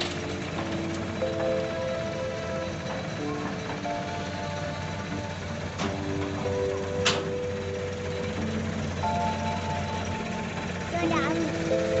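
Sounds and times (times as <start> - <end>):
music of held notes: 0.0 - 12.0.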